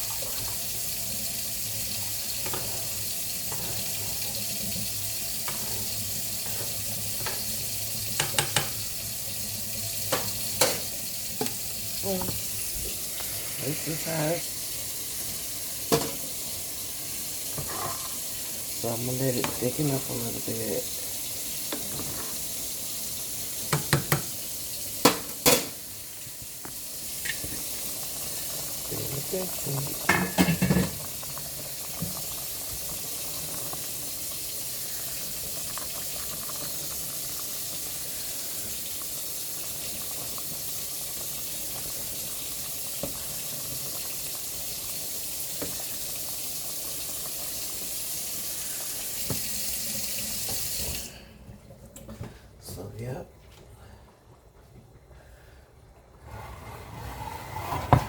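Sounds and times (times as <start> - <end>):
gravy cooking hiss: 0.0 - 51.4.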